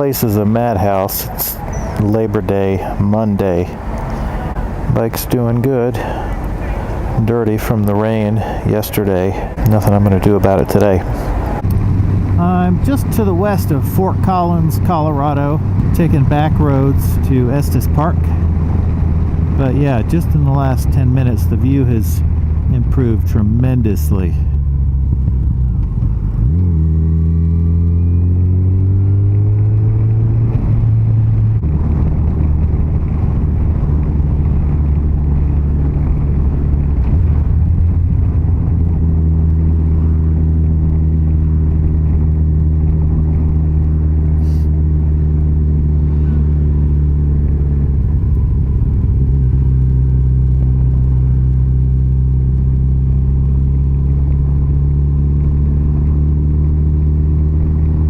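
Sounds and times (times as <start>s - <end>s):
road noise: 0.0s - 58.0s
wind noise: 0.0s - 58.0s
motorcycle engine running: 9.7s - 58.0s.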